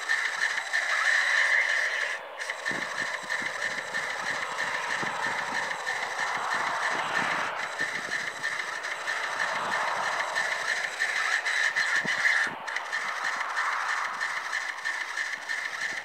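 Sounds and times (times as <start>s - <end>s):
high wavering whine: 0.0s - 16.0s.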